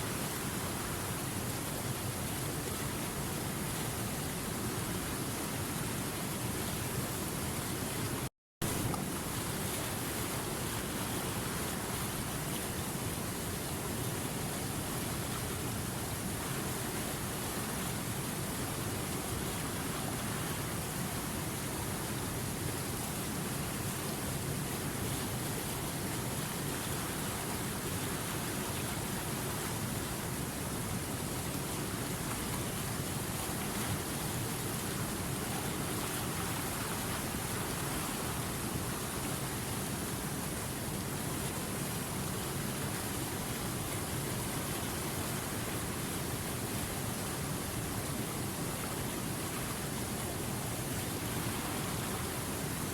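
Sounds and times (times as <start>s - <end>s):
river water over rocks: 0.0s - 52.9s.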